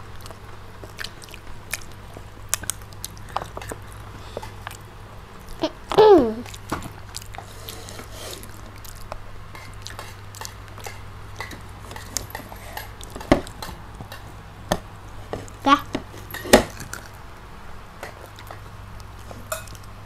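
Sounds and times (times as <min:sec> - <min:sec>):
chewing crispy food: 0:00.0 - 0:14.4, 0:18.0 - 0:20.0
steady low hum: 0:00.0 - 0:20.0.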